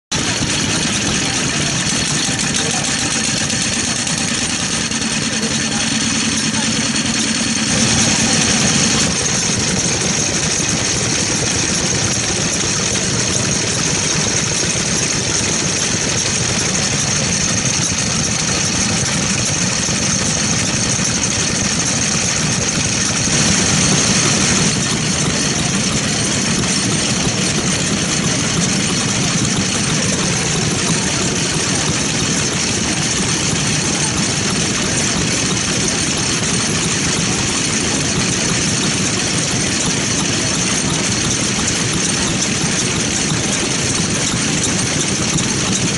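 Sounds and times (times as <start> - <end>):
tiller engine running: 0.0 - 45.9.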